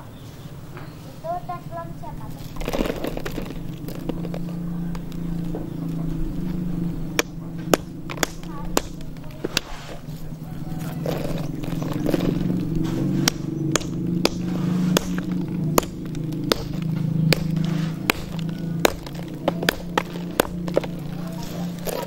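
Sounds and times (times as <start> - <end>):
steady low hum: 0.0 - 22.0
hammer pounding rock: 2.2 - 22.0.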